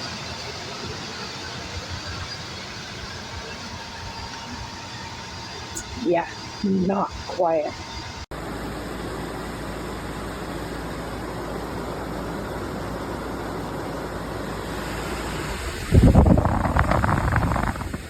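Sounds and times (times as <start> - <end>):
air conditioner running: 0.0 - 18.0
loud rough rumble: 0.0 - 18.0.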